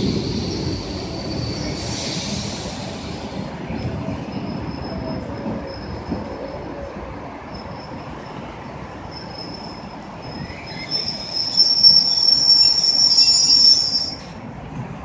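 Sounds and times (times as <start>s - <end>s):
train brakes squealing: 0.0s - 6.9s, 7.5s - 14.4s
low rumble of train: 0.0s - 15.0s.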